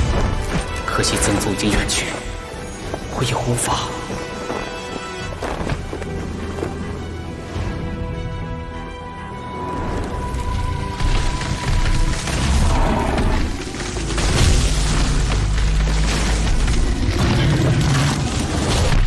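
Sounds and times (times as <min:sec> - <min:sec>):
dramatic background music: 0:00.0 - 0:19.0.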